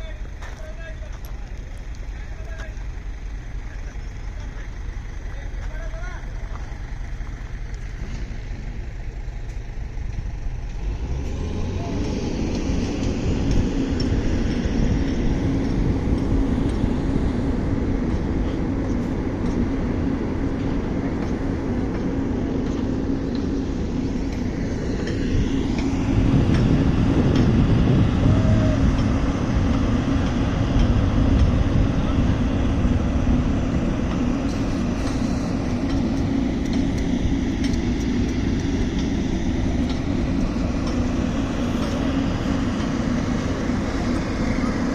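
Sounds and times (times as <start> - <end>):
asphalt roller rumbling: 0.0 - 44.9.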